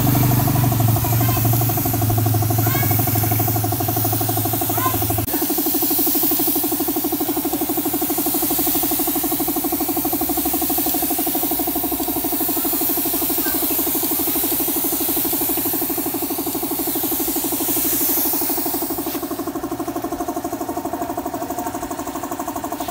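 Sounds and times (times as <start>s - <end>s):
spray gun hissing: 0.0s - 21.2s
air compressor running: 0.0s - 22.9s.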